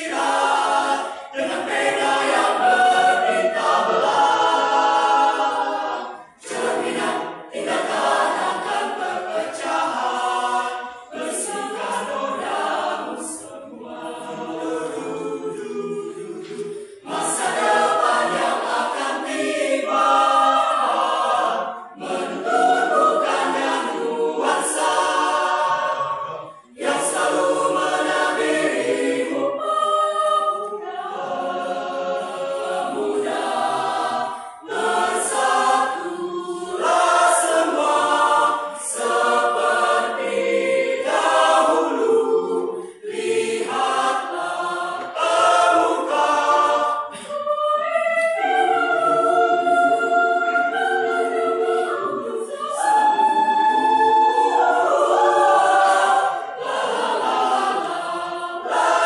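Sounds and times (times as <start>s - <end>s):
mixed choir singing unaccompanied: 0.0s - 59.0s.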